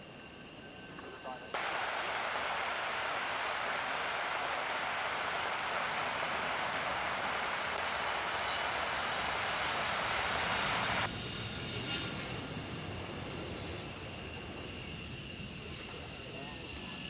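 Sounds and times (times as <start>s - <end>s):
aircraft engine whine: 0.0s - 17.0s.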